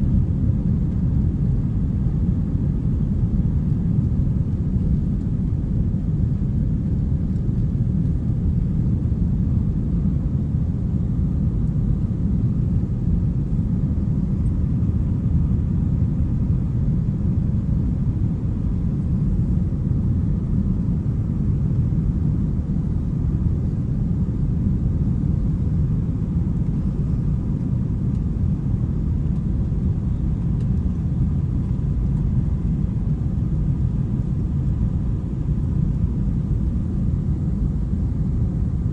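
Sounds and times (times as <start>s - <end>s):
faint steady whine: 0.0s - 38.9s
jet airliner rumble in flight: 0.0s - 38.9s.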